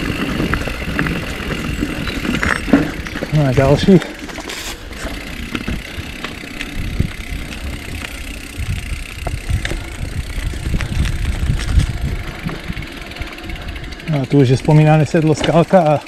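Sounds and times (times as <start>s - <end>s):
bike clicks and rattles: 0.0s - 16.0s
bike tyres rumbling on dirt: 0.0s - 16.0s.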